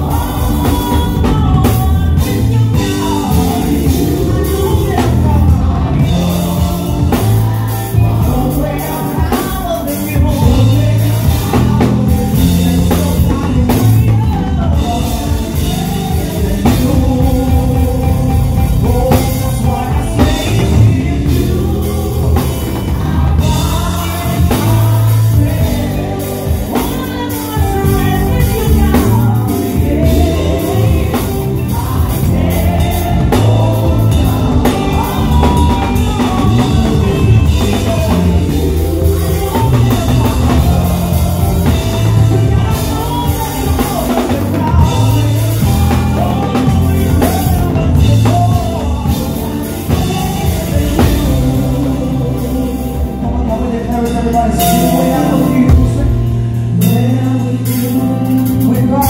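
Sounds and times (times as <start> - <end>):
drum kit with cymbals: 0.0 - 59.0
guitar: 0.0 - 59.0
keyboards: 0.0 - 59.0
person singing: 0.0 - 59.0.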